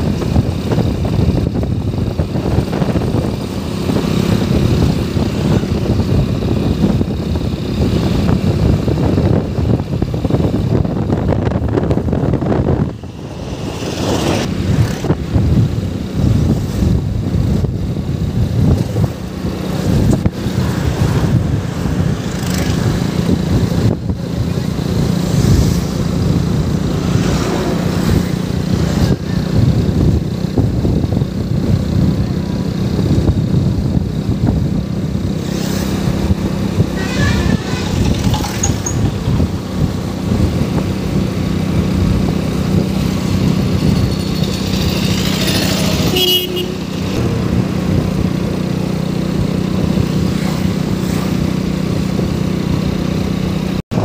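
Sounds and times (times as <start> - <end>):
vehicle engine drone and road noise: 0.0 - 54.0.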